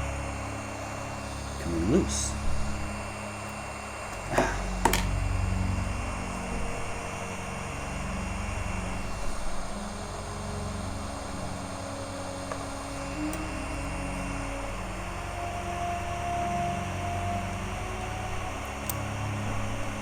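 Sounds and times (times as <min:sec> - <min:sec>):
hot-air station blowing: 0:00.0 - 0:20.0.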